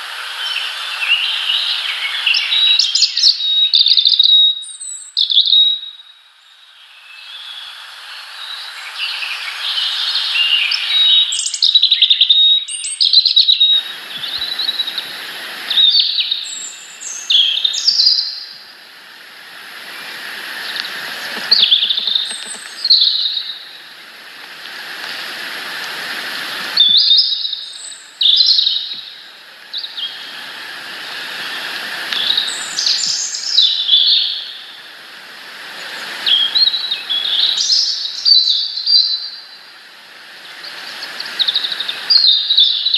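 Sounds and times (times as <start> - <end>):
small birds chirping: 0.0 - 34.9, 35.7 - 42.9
background hiss: 0.0 - 42.9.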